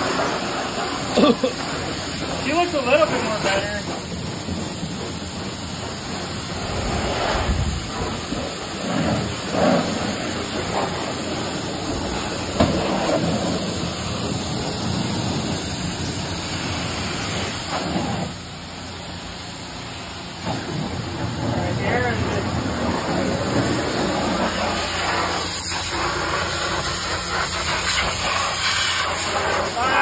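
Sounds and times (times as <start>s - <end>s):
pressure washer spraying water: 0.0s - 30.0s.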